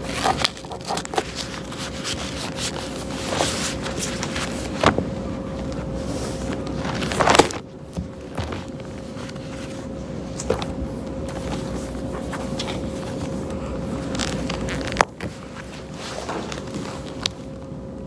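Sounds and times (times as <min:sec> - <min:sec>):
clicks and rustles of folders: 0:00.0 - 0:17.7
electrical hum: 0:00.0 - 0:18.0.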